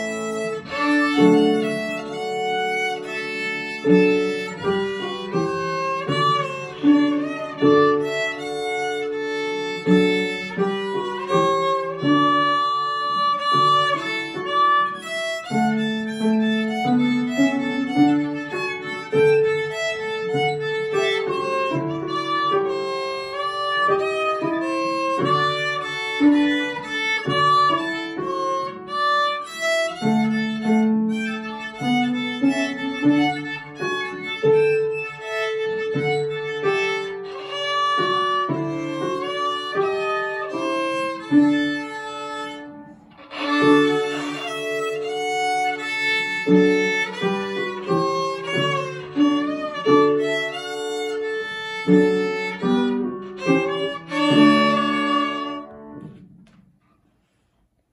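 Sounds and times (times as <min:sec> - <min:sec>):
solo violin melody: 0:00.0 - 0:56.3.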